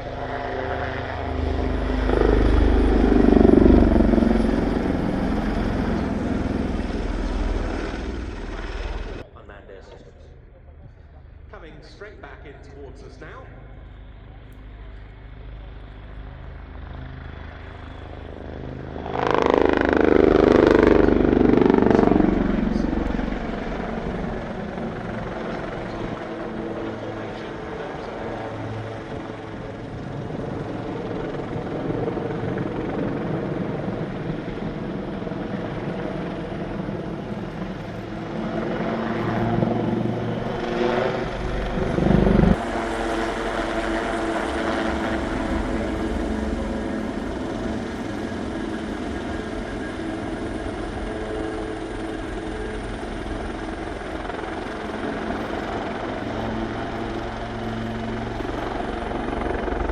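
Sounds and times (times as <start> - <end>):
helicopter flying: 0.0 - 59.9.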